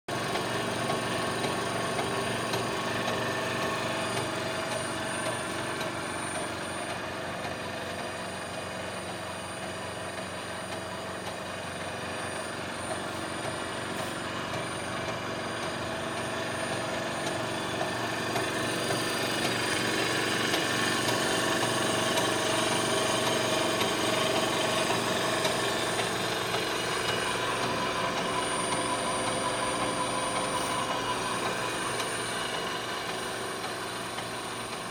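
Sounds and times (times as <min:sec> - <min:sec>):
mixer mechanical hum and whine: 0:00.1 - 0:34.9.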